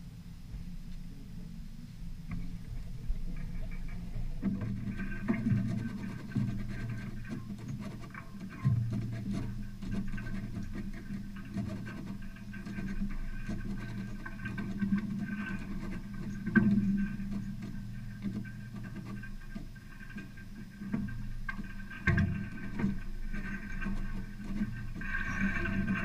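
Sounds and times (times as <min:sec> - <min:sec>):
water lapping against hull: 0:00.2 - 0:26.0
small clicks and knocks: 0:02.3 - 0:26.0.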